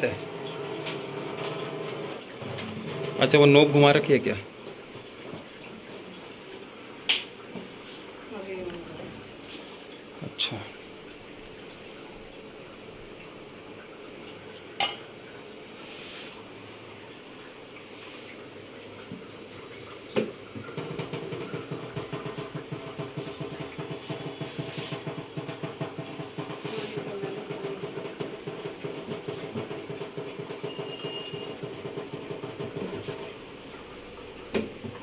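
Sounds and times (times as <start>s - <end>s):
water pump humming: 0.0s - 35.0s.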